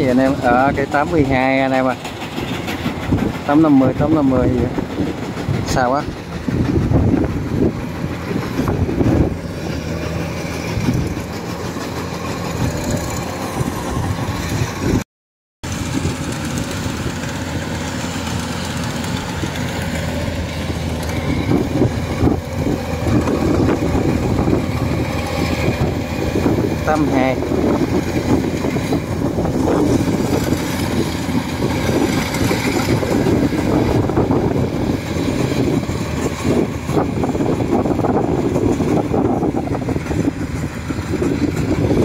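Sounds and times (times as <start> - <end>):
combine harvester engine drone: 0.0 - 15.0, 15.6 - 42.0.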